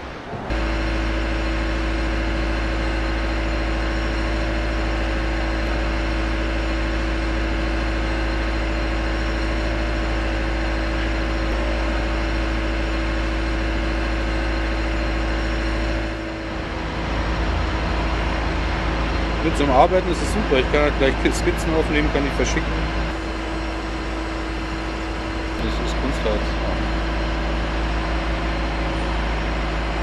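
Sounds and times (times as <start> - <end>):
deep mechanical drone: 0.0 - 30.0
steady tone: 0.0 - 30.0.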